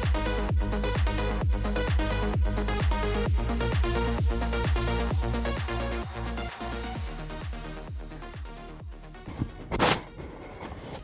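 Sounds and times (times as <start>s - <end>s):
electronic dance music: 0.0s - 10.9s.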